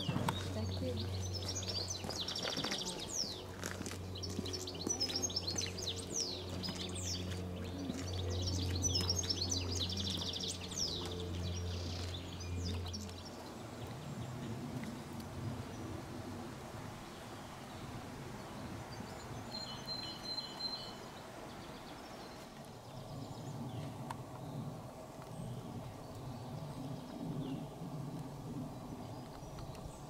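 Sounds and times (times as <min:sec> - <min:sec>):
songbirds chirping and trilling: 0:00.0 - 0:30.0
steady low hum: 0:00.0 - 0:30.0.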